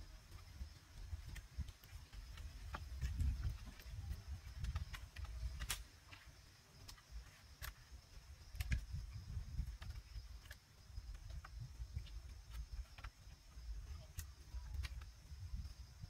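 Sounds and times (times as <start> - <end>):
bamboo poles clicking and knocking: 0.0 - 15.8.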